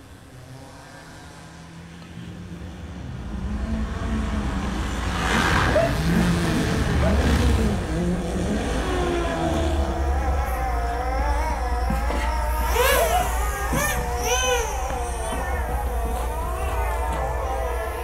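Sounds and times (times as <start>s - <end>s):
low engine-like rumble: 0.0s - 18.0s.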